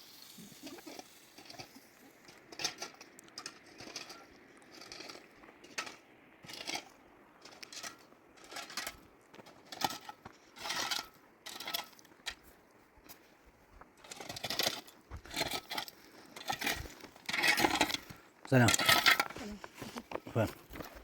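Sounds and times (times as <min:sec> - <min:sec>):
quiet rustling: 0:00.0 - 0:21.0
short scraping and crunching: 0:00.0 - 0:21.0.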